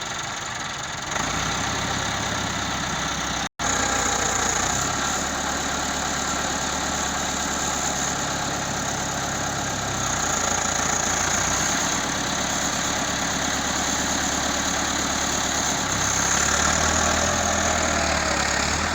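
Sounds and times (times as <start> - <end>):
heavy machine engine running: 0.0 - 18.9.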